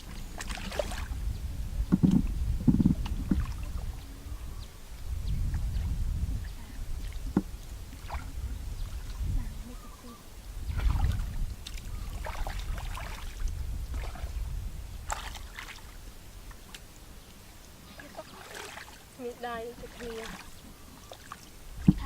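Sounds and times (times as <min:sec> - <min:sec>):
shallow water sloshing: 0:00.0 - 0:04.8, 0:05.4 - 0:22.0.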